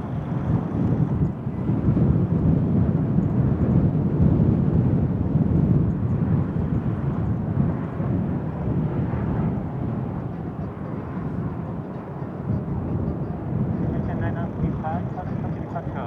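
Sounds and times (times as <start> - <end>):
jet engine roar: 0.0 - 3.2, 3.9 - 16.0.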